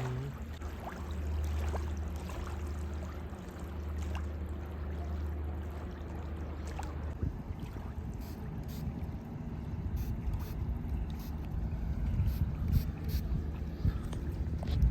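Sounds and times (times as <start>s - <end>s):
ship engine droning: 0.0s - 14.7s.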